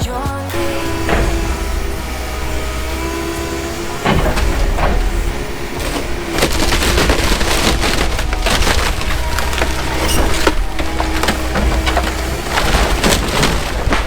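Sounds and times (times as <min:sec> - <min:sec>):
excavator engine hum: 0:00.4 - 0:14.0
wood cracking and splintering: 0:00.5 - 0:14.0.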